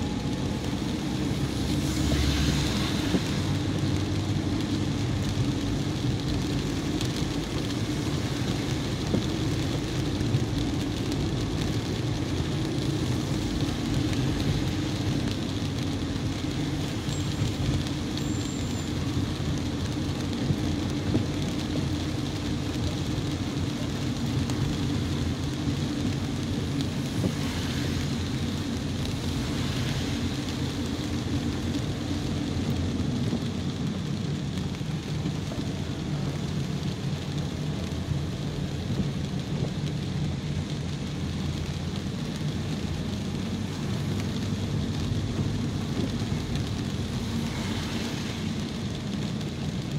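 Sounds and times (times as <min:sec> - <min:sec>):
car engine and tyres droning: 0:00.0 - 0:49.9
rain hissing on wet road: 0:00.0 - 0:49.9.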